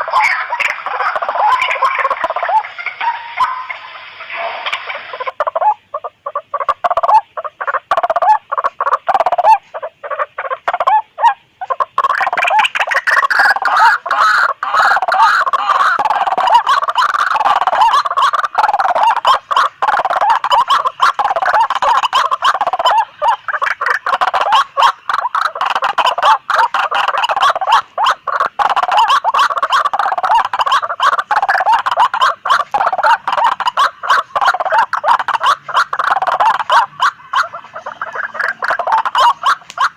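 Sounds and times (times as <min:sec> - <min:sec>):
waterhens calling harshly: 0:00.0 - 0:39.9.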